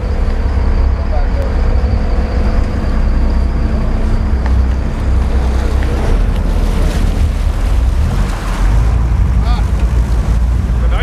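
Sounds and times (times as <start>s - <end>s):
boat engine running: 0.0s - 11.0s
water washing along hull: 0.0s - 11.0s.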